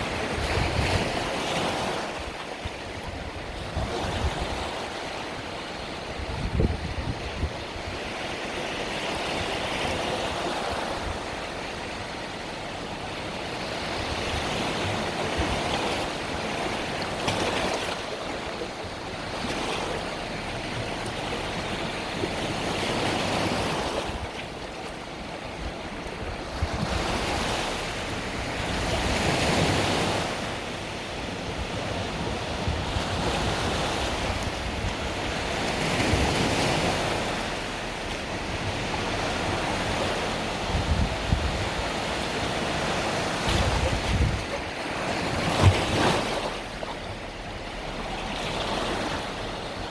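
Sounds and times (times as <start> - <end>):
waves breaking on shore: 0.0 - 49.9
wind buffeting microphone: 0.0 - 49.9.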